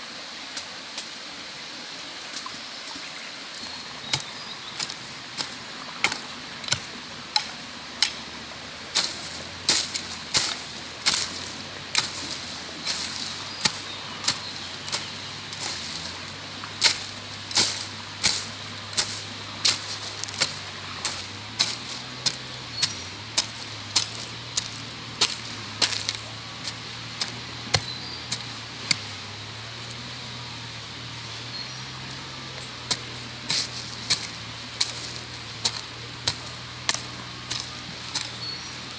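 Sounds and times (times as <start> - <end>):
hoe chopping into soil: 4.0 - 8.3, 8.9 - 30.5, 31.7 - 38.9.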